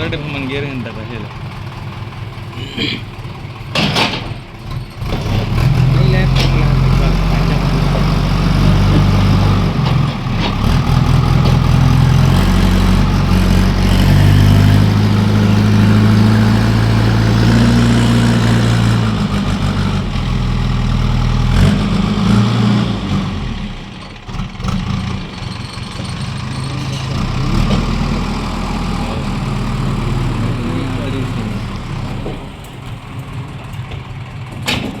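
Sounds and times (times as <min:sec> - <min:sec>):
construction machine diesel engine: 0:00.0 - 0:35.0.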